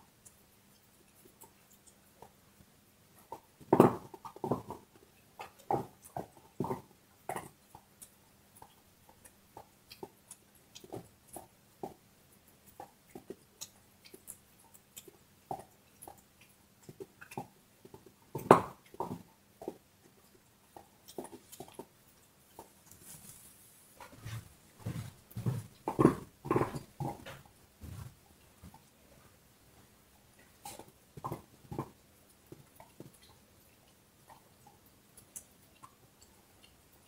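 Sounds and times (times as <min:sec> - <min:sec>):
dog gnawing on a bone: 0:03.1 - 0:37.0.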